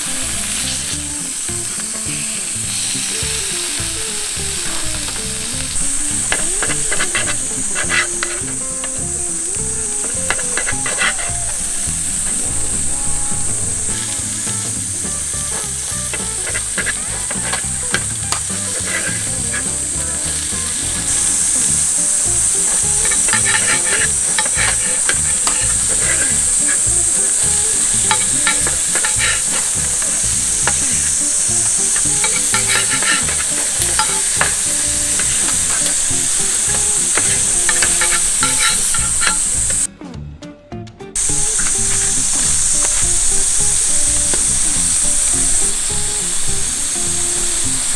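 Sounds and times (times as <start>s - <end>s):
spatula and tongs scraping metal: 0.0s - 12.3s, 13.9s - 39.9s, 41.2s - 46.1s
steak sizzling on griddle: 0.0s - 39.9s, 41.2s - 47.9s.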